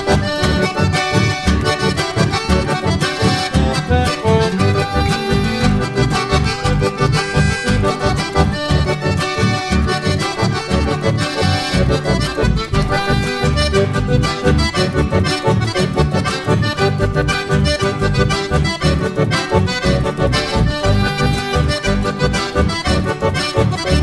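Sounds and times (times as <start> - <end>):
instrumental music with quick beat: 0.0 - 24.0.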